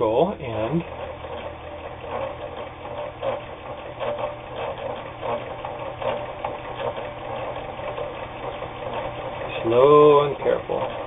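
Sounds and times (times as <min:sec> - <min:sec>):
sewing machine motor running: 0:00.0 - 0:11.0.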